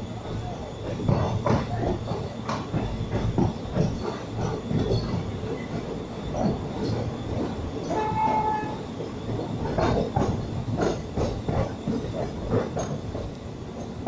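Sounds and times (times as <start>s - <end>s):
train carriage rumbling and rattling: 0.0s - 14.0s
wheels clattering on rails: 0.0s - 14.0s.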